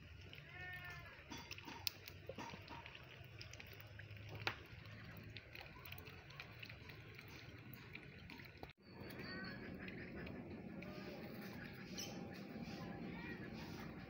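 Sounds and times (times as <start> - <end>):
ducks dabbling in water: 0.0 - 14.0.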